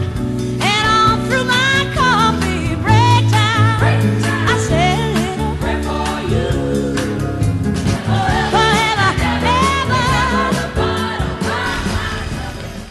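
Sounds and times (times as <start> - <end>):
backing band playing: 0.0 - 12.9
person singing gospel: 1.4 - 7.4, 8.1 - 12.8.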